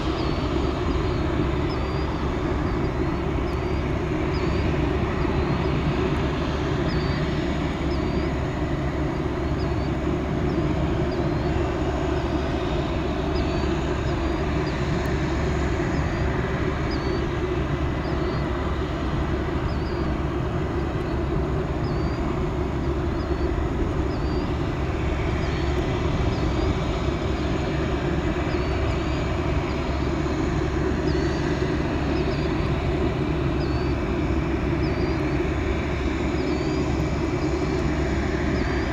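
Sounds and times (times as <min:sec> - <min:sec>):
jet engine rumble and hiss: 0:00.0 - 0:38.9.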